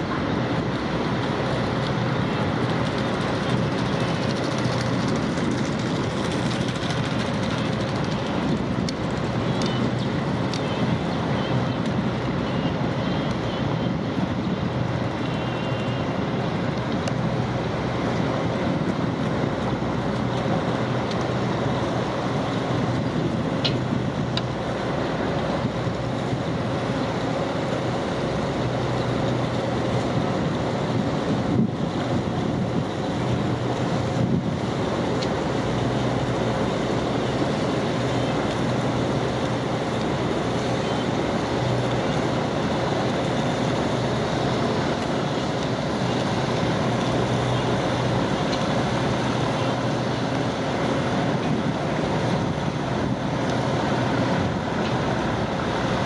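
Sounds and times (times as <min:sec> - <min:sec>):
boat engine droning: 0:00.0 - 0:56.0
rushing wind: 0:00.0 - 0:56.0
water noise: 0:00.0 - 0:56.0.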